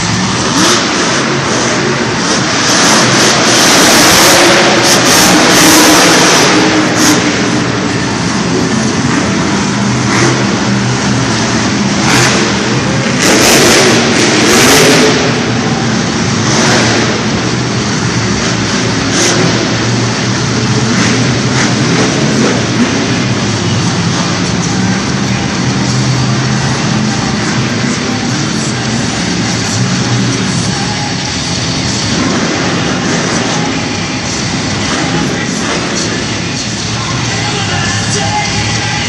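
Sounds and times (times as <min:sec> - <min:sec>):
monster truck engines revving: 0:00.0 - 0:39.0.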